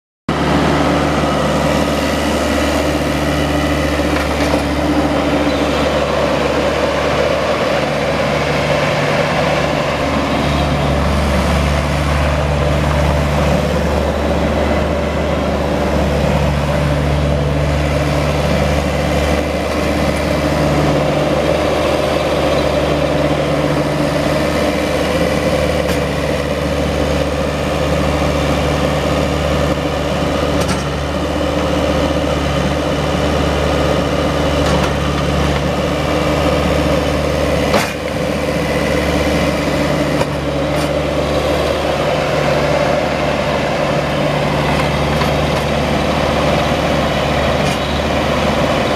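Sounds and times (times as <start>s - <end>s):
diesel engine running: 0.3s - 48.9s.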